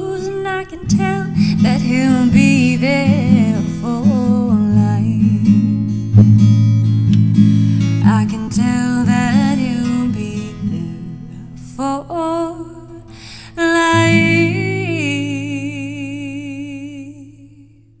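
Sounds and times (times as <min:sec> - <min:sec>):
woman singing: 0:00.0 - 0:06.0, 0:07.8 - 0:18.0
acoustic guitar: 0:00.0 - 0:18.0.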